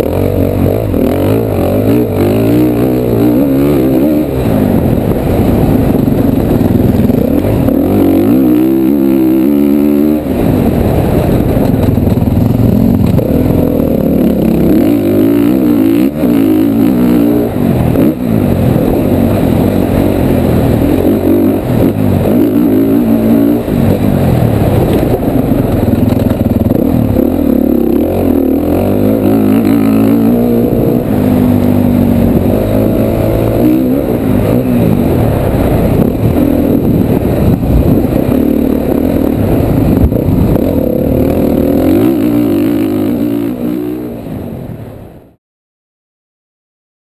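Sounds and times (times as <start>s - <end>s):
dirt bike engine revving: 0.0s - 44.4s.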